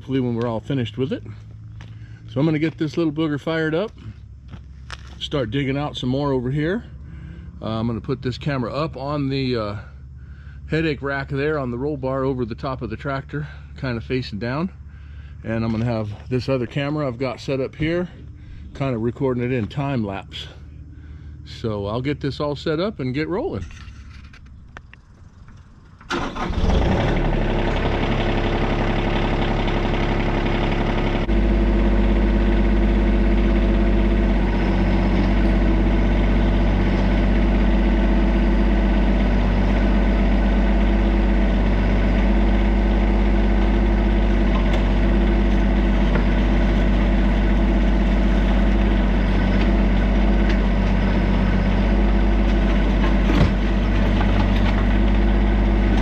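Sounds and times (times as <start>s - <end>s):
diesel engine idling: 0.0s - 23.6s, 24.6s - 56.0s.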